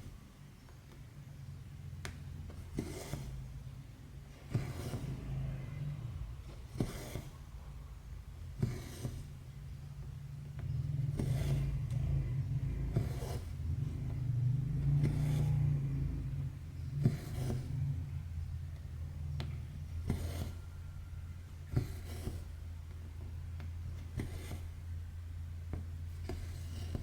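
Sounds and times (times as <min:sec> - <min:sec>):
thread rasping through fabric: 0:02.0 - 0:09.5, 0:10.4 - 0:24.8.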